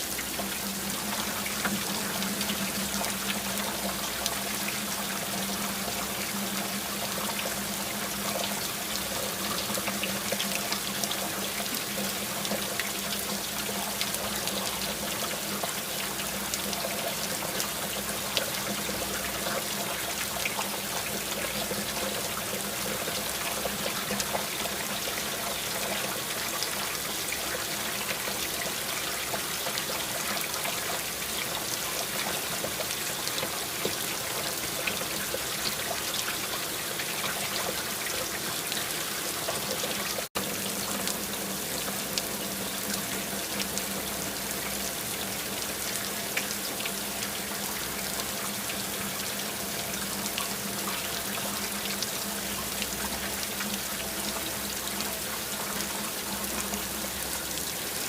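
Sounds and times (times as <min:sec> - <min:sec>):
steady rain: 0:00.0 - 0:58.0
water trickling: 0:00.0 - 0:58.0.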